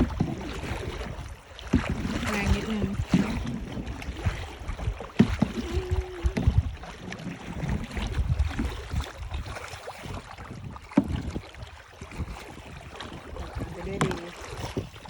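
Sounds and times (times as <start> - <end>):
knocks on canoe: 0.0 - 9.1, 9.9 - 15.0
wind buffeting microphone: 0.0 - 15.0.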